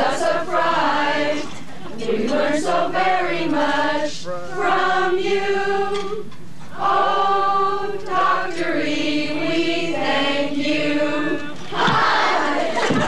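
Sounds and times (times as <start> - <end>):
group singing long held notes: 0.0 - 13.0.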